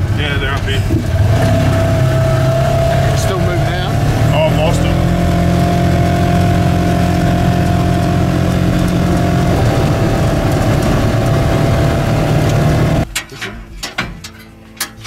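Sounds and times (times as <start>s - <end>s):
buggy engine running: 0.0s - 13.1s.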